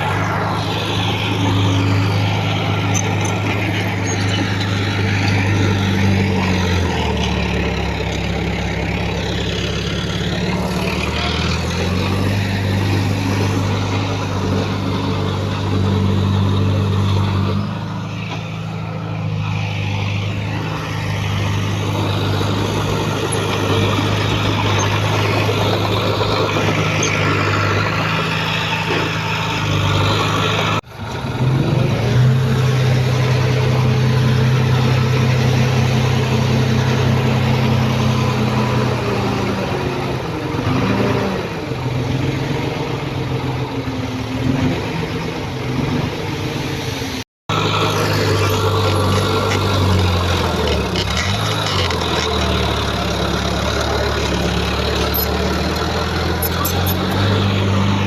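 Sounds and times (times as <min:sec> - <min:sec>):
heavy diesel engines droning: 0:00.0 - 0:58.0.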